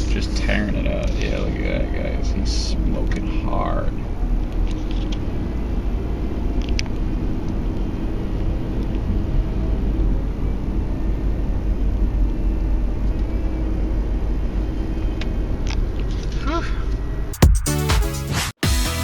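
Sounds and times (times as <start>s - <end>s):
car road and engine rumble: 0.0s - 17.4s.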